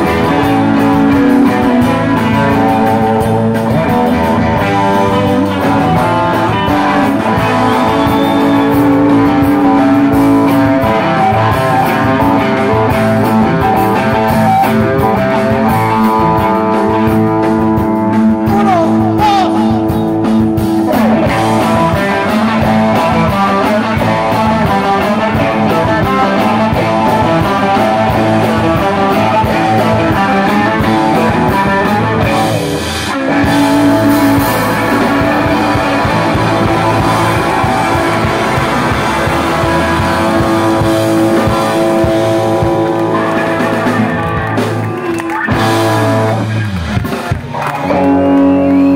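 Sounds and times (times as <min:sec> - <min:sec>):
bass guitar: 0:00.0 - 0:48.9
drums: 0:00.0 - 0:48.9
electric guitars: 0:00.0 - 0:48.9.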